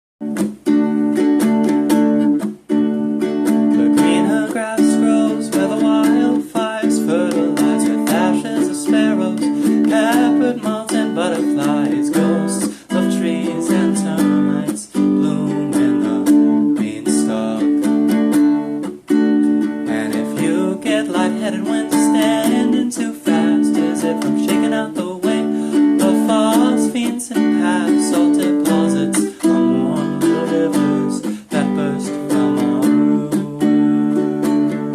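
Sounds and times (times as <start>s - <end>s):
strummed acoustic string instrument: 0.2s - 34.9s.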